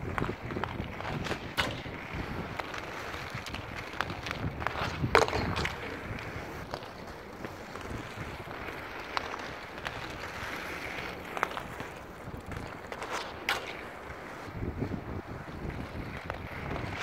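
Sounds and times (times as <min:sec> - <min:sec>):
skate wheels rolling on asphalt: 0:00.0 - 0:17.0
hockey stick clacking puck: 0:00.1 - 0:14.3.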